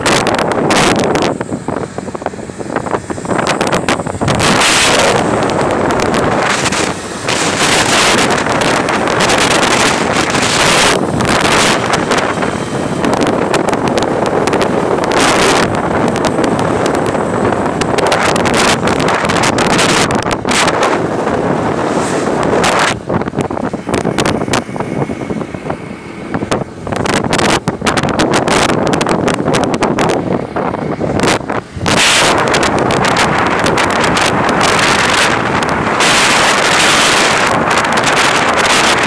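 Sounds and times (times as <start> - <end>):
wind buffeting a microphone: 0.0 - 39.0.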